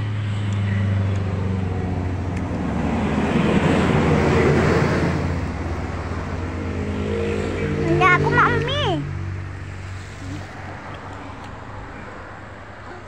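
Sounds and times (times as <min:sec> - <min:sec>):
vehicle engine humming: 0:00.0 - 0:13.0
vehicle passing on road: 0:00.0 - 0:13.0.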